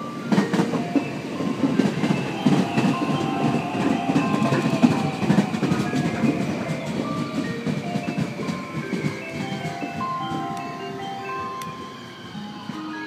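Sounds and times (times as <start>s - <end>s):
train wheels clattering over rail joints: 0.2s - 10.7s.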